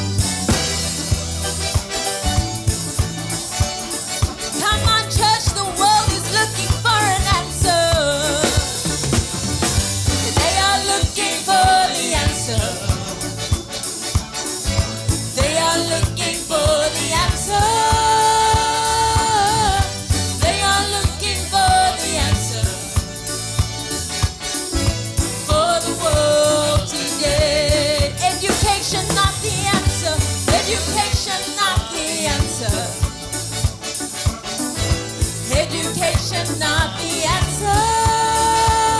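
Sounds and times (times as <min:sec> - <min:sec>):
gospel band music: 0:00.0 - 0:38.9.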